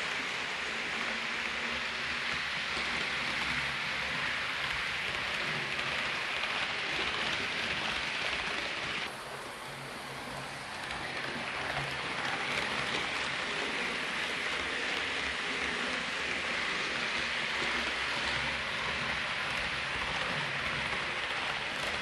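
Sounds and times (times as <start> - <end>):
model train whirring on track: 0.0 - 22.0.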